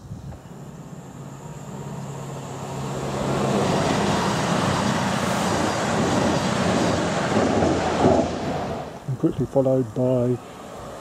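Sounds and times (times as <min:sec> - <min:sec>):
passenger train passing: 0:00.4 - 0:11.0.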